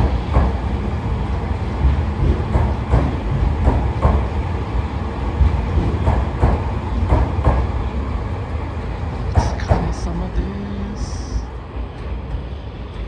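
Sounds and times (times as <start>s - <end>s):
train cars rumbling past: 0.0s - 13.0s.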